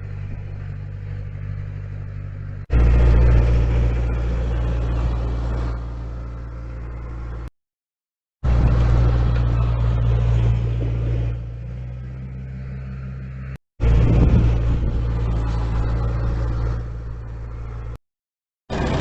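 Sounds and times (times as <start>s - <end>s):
diesel truck engine droning: 0.0s - 7.5s, 8.4s - 18.0s, 18.7s - 19.0s.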